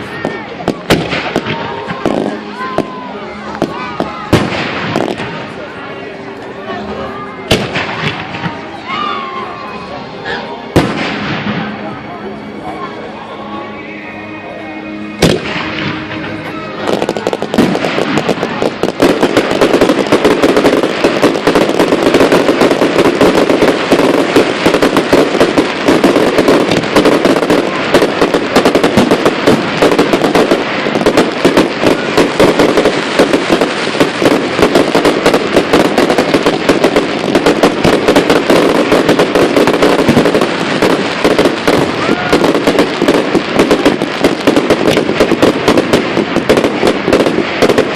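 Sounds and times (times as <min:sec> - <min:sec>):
fireworks crackling and popping: 0:00.0 - 0:13.1, 0:15.1 - 0:47.9
firework bang: 0:00.2 - 0:03.0, 0:03.6 - 0:05.6, 0:07.5 - 0:08.6, 0:10.8 - 0:11.9, 0:15.2 - 0:47.9.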